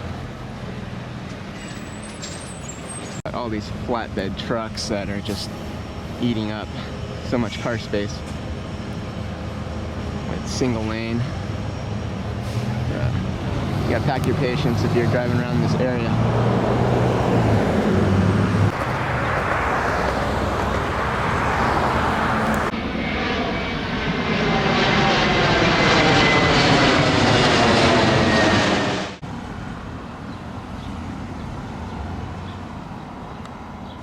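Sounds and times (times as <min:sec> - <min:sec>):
jet engine roar: 0:00.0 - 0:33.8.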